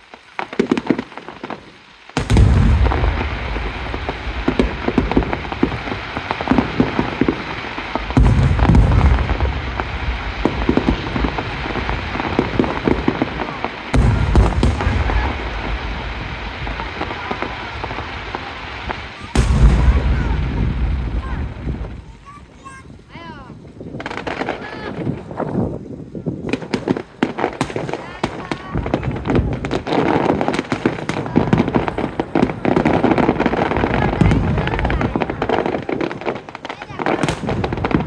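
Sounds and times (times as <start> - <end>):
fireworks crackling: 0.0 - 38.0
fireworks deep booms: 2.2 - 38.0.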